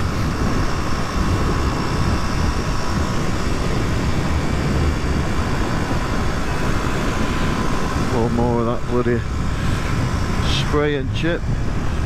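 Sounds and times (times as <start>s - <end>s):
wind rush over microphone: 0.0s - 12.0s.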